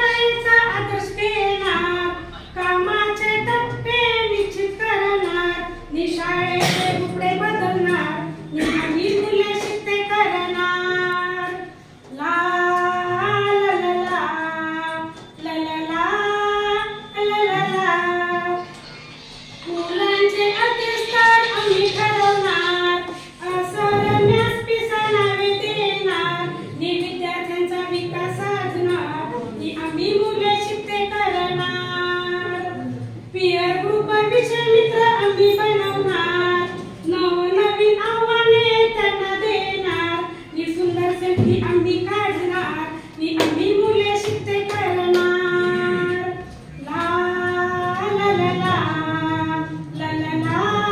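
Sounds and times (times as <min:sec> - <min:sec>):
woman singing unaccompanied: 0:00.0 - 0:18.8, 0:19.6 - 0:50.9.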